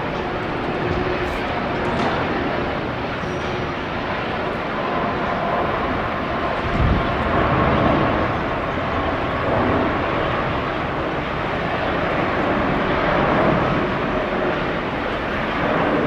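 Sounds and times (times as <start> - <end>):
jet engines roaring: 0.0 - 16.0
wind buffeting microphone: 0.0 - 16.0.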